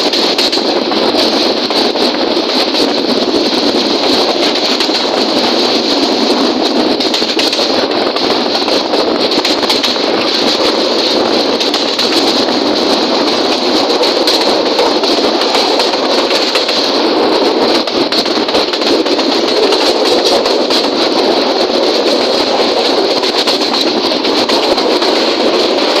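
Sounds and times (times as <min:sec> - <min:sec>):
train rail noise: 0:00.0 - 0:26.0.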